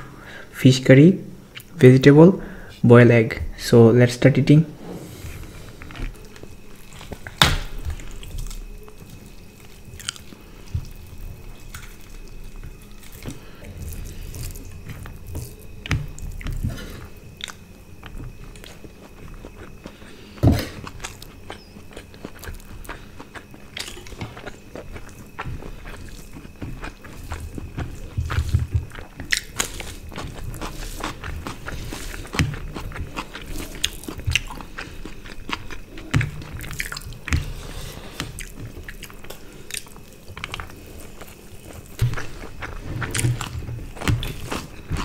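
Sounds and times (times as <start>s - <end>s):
chewing: 5.2s - 45.0s.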